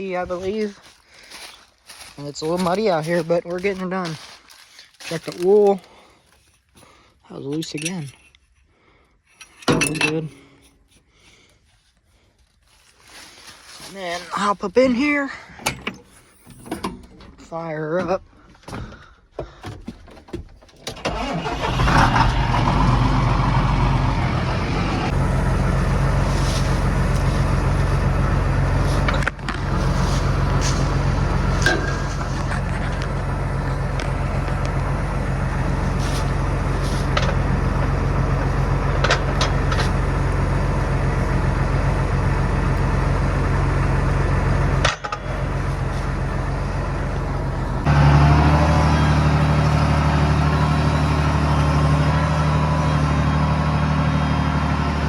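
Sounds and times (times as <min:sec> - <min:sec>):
tractor engine starting and running: 0:00.0 - 0:04.4, 0:14.0 - 0:19.0, 0:19.6 - 0:55.0.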